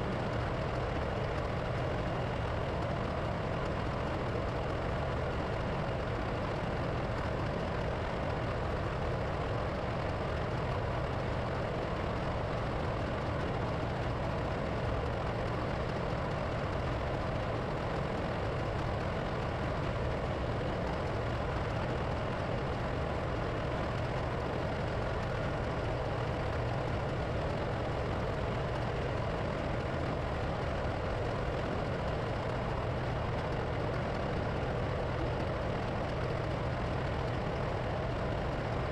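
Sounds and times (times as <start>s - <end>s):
diesel machinery drone: 0.0s - 38.9s.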